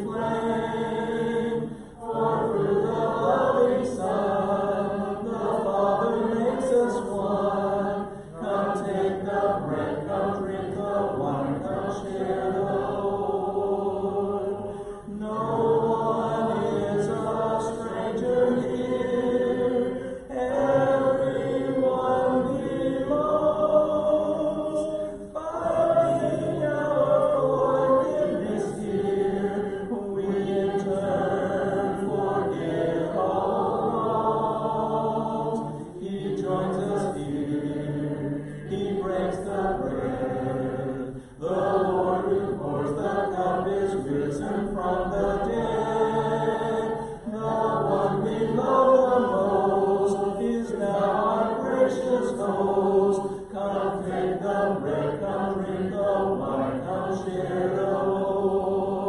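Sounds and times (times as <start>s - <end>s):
congregation singing a hymn: 0.0s - 59.0s.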